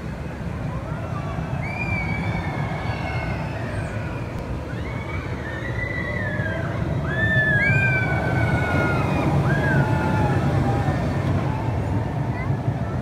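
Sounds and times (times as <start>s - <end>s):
roller coaster rumble: 0.0s - 13.0s.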